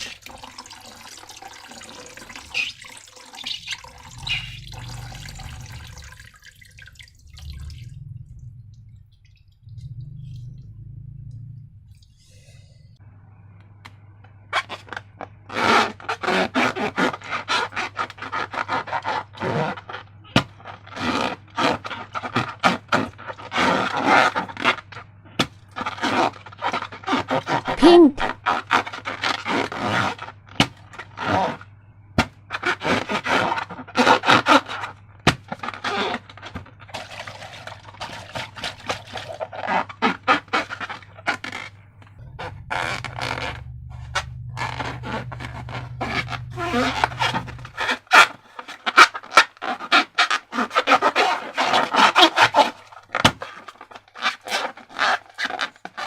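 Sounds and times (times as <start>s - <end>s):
sticky crackly slime scrapes: 1.8s - 6.0s, 14.6s - 31.7s, 32.5s - 56.0s.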